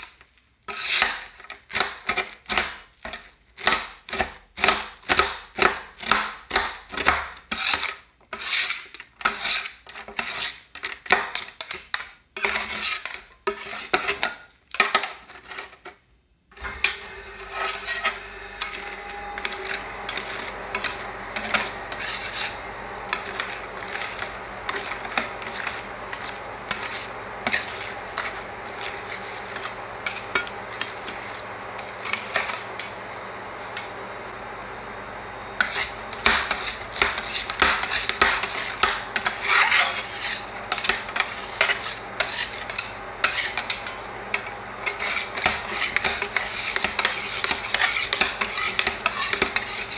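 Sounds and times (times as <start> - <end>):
spatula scraping: 0.7 - 4.8, 6.9 - 16.0, 16.6 - 33.1, 35.6 - 49.9.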